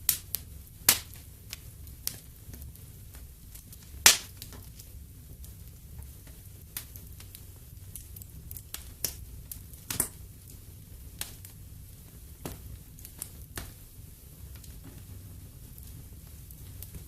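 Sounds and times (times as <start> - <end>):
low rumble of fire: 0.0 - 17.0
wood fire crackling and popping: 0.0 - 17.0.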